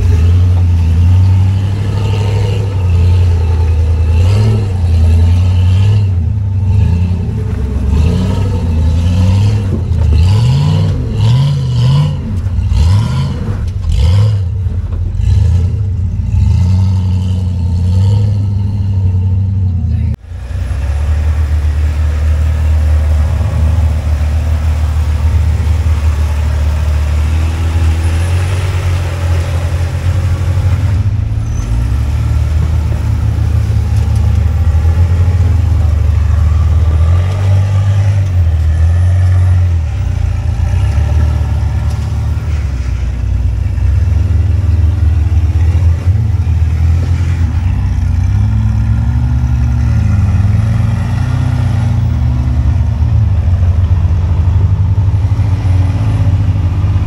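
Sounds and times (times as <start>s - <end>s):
car engine running at low revs: 0.0s - 57.0s.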